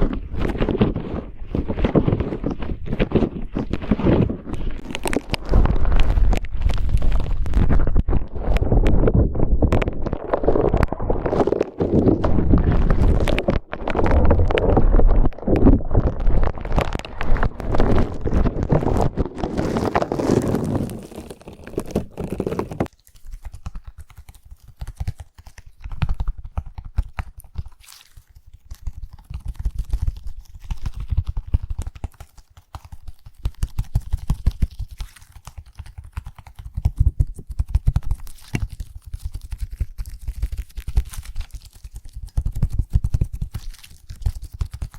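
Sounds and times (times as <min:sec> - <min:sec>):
slime squishing and popping: 0:00.0 - 0:44.9.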